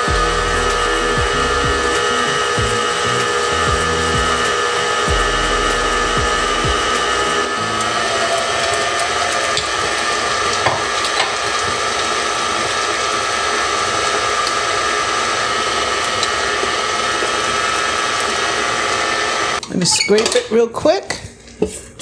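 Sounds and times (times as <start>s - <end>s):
stand mixer whining: 0.0s - 19.6s.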